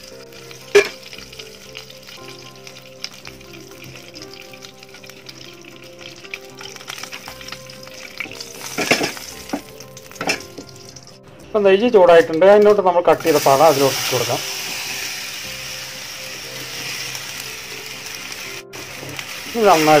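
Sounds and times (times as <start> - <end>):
butter sizzling in a pan: 0.0 - 20.0.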